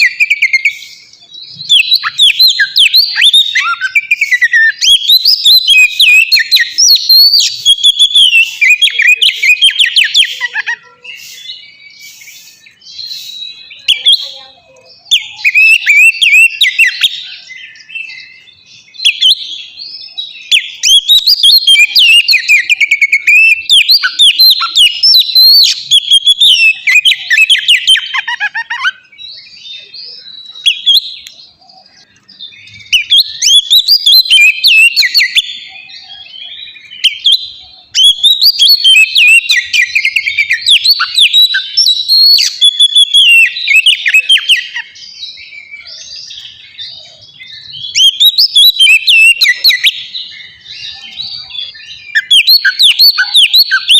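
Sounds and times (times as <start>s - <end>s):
bird singing whistled notes: 0.0s - 53.9s.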